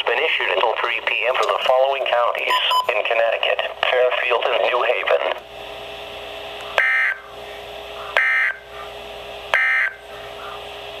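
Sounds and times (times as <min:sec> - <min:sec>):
radio hiss: 0:00.0 - 0:05.4, 0:06.6 - 0:10.8
constant hum: 0:00.0 - 0:11.0.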